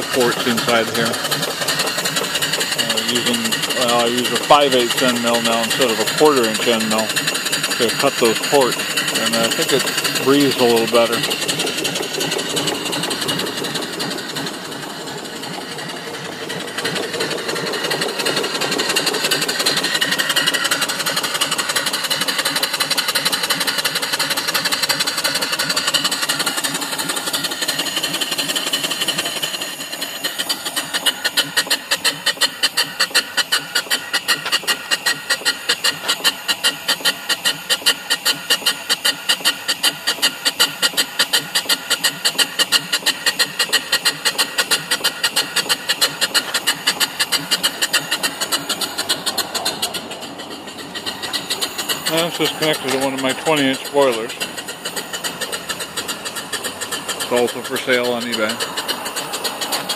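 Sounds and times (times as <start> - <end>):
steam engine clatter: 0.0 - 59.9
steam engine exhaust beats: 0.0 - 59.9.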